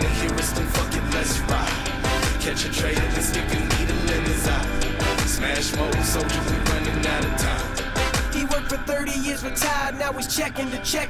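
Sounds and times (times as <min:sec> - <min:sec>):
hip hop music: 0:00.0 - 0:11.0.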